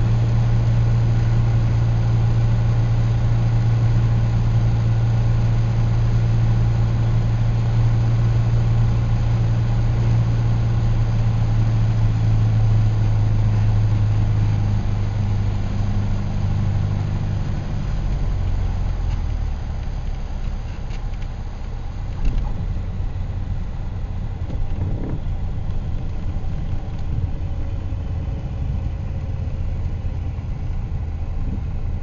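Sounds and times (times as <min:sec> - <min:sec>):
engine running with low hum: 0:00.0 - 0:32.0.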